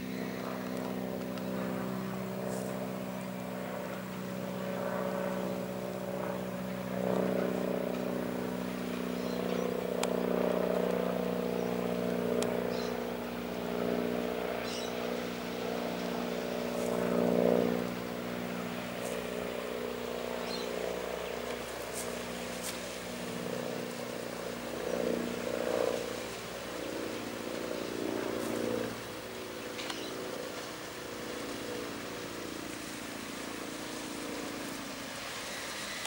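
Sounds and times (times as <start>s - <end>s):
diesel engine drone: 0.0s - 36.0s.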